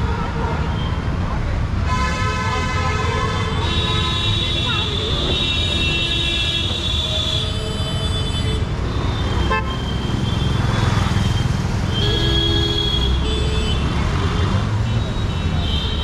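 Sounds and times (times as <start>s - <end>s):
traffic engine rumble: 0.0s - 16.0s
vehicle horns honking: 1.8s - 10.8s, 11.9s - 16.0s.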